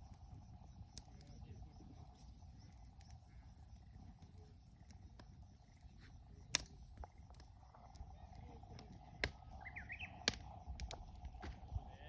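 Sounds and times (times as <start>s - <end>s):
fire crackling: 0.0s - 12.0s
wood fire burning: 0.0s - 12.0s.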